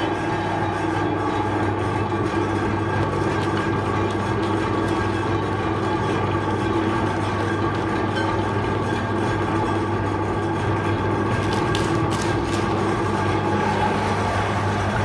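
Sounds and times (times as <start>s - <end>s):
electric meat grinder motor humming: 0.0s - 15.0s.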